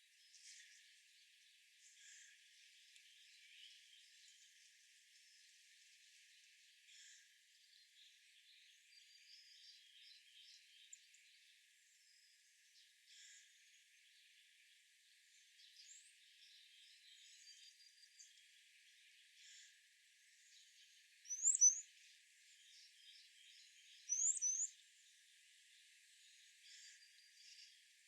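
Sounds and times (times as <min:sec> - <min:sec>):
faint bird chirping: 0:00.0 - 0:28.0.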